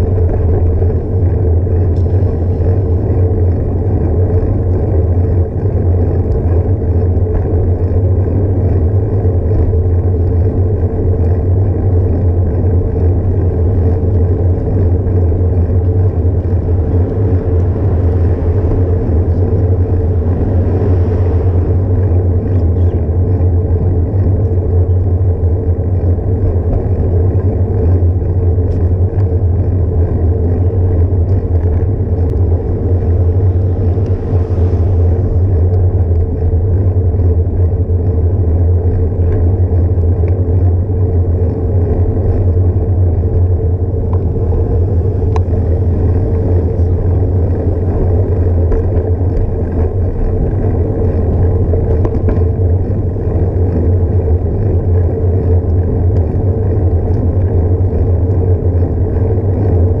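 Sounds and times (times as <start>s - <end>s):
bicycle road noise: 0.0s - 60.0s
wind rumble on microphone: 0.0s - 60.0s.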